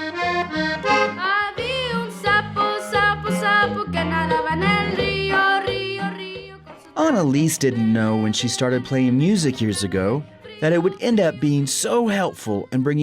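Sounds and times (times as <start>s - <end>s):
accordion playing lively tune: 0.0s - 6.4s, 7.0s - 11.4s.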